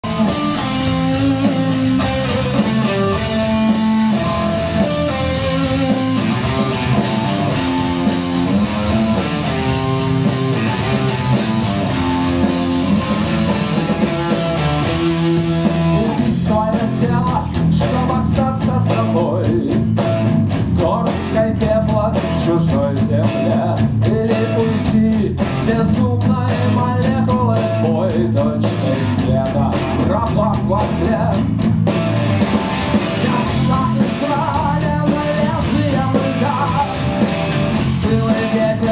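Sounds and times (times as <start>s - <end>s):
bass guitar: 0.0s - 38.9s
drum kit: 0.0s - 38.9s
electric guitar melody: 0.0s - 38.9s.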